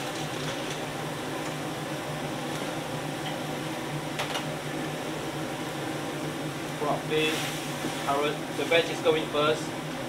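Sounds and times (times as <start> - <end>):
gas burners and extraction rushing: 0.0 - 10.0.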